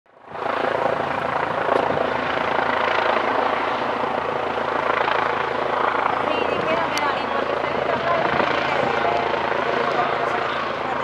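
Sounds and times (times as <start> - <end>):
helicopter flying overhead: 0.1 - 11.0.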